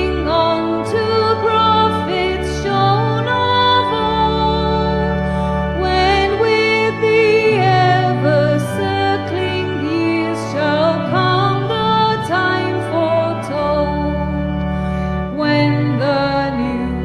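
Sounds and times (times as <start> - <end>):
low held accompaniment notes: 0.0 - 17.0
person singing with vibrato: 0.0 - 17.0.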